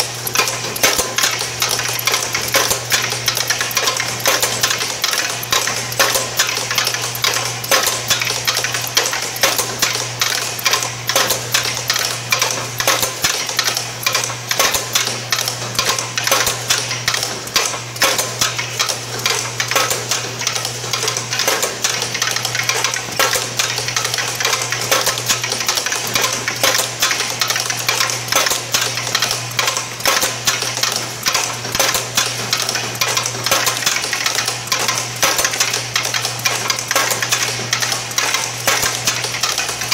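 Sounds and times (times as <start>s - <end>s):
machine clicking and rattling: 0.0s - 39.9s.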